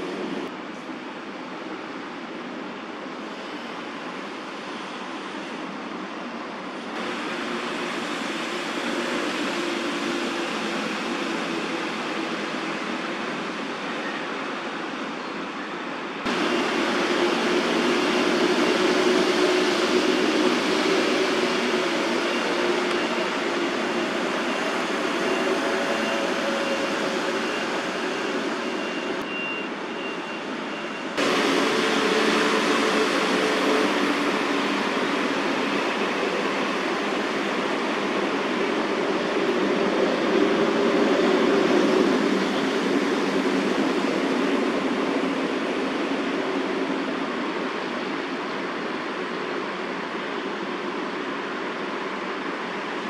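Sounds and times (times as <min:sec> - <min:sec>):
road traffic noise: 0:00.0 - 0:53.0.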